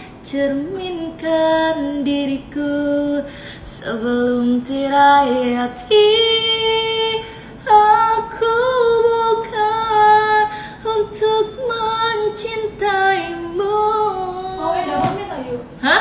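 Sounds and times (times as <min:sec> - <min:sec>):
woman singing a slow ballad: 0:00.0 - 0:14.9.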